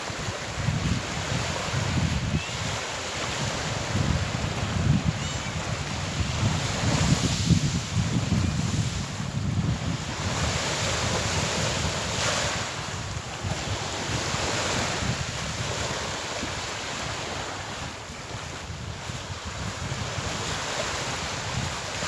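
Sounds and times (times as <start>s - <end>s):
sea waves breaking on shore: 0.0s - 22.0s
wind rumble on microphone: 0.0s - 22.0s.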